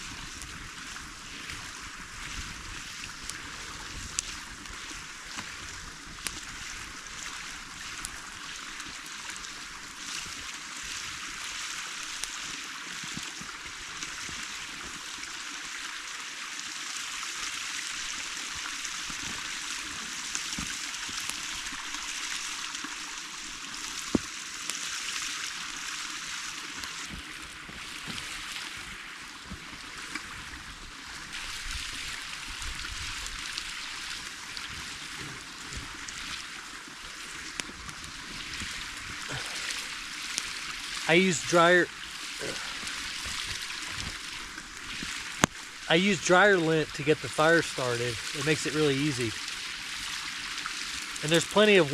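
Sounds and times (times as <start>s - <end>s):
creek running: 0.0s - 51.9s.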